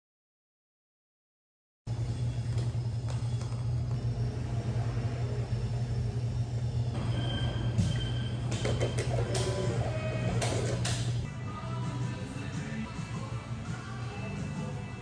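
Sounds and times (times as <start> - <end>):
low mechanical hum: 1.9 - 15.0.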